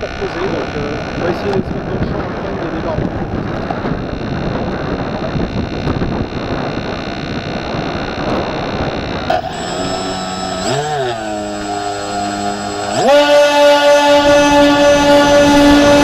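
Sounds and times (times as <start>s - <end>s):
electric motors whining: 0.0s - 2.8s, 3.4s - 16.0s
wind buffeting microphone: 0.0s - 16.0s.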